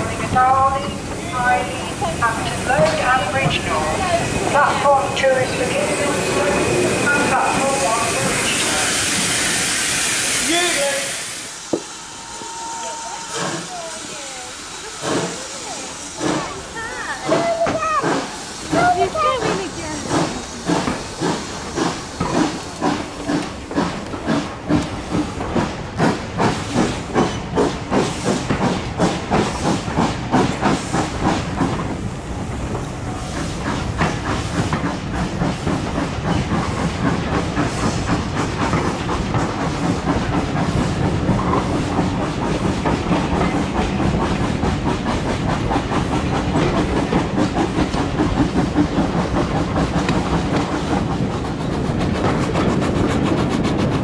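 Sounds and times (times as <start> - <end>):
steam locomotive chuffing: 0.0 - 54.0
train running noise: 0.0 - 54.0.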